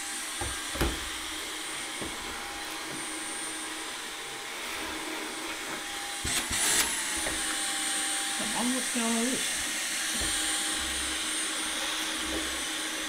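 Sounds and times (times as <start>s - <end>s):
handheld vacuum cleaner whining: 0.0s - 13.0s.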